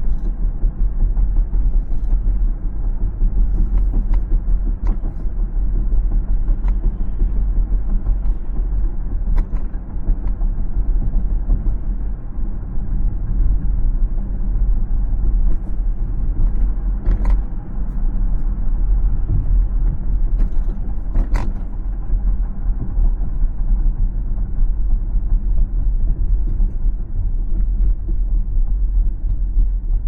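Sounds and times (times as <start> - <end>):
car road rumble: 0.0 - 30.0.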